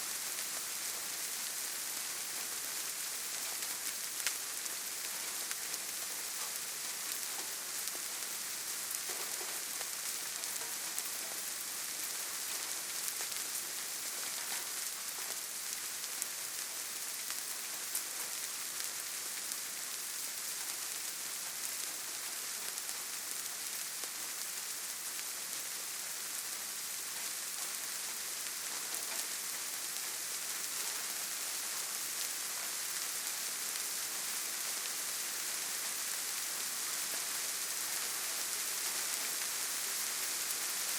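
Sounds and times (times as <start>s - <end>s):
light rain pattering on leaves: 0.0s - 40.9s.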